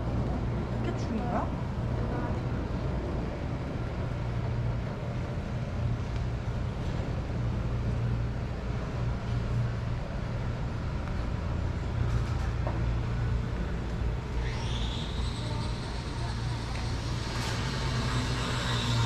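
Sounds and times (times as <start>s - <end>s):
street noise: 0.0s - 19.0s.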